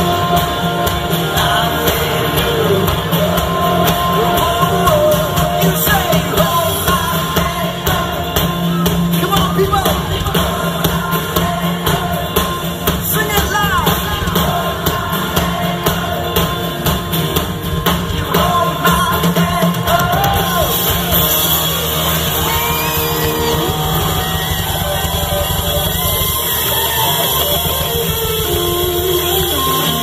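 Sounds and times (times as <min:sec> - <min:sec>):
amplified lead singing: 0:00.0 - 0:30.0
live rock band playing: 0:00.0 - 0:30.0.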